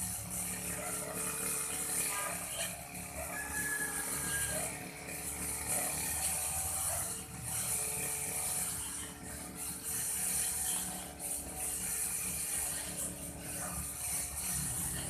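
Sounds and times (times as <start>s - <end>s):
brush cutter engine running: 0.0s - 15.0s
cutter rasping through grass: 0.0s - 15.0s.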